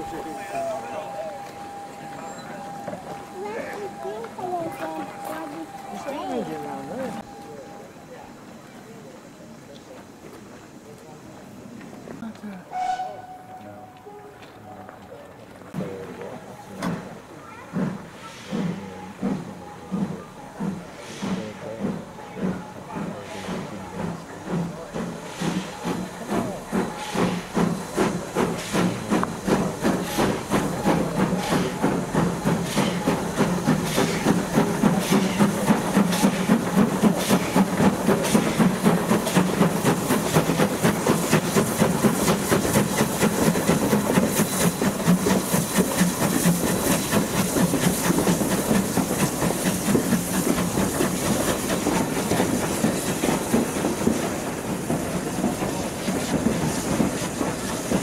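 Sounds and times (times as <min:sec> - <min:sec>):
steam hissing: 0:00.0 - 0:13.2, 0:15.7 - 0:58.0
steam locomotive chuffing: 0:00.0 - 0:58.0.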